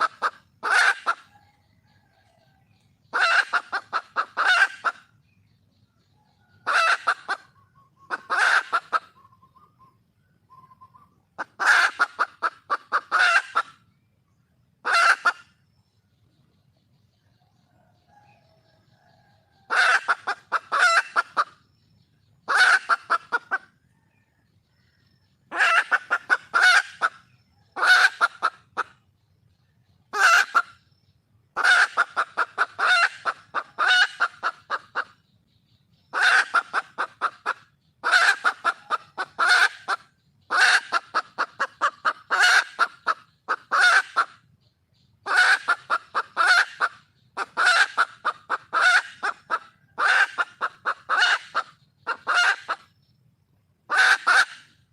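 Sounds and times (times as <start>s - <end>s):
junglefowl hen clucking: 0.0s - 54.9s.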